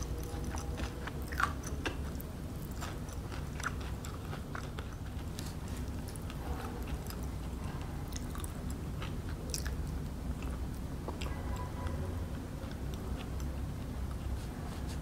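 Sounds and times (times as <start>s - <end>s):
chewing with crunches: 0.0s - 15.0s
low steady hum: 0.0s - 15.0s.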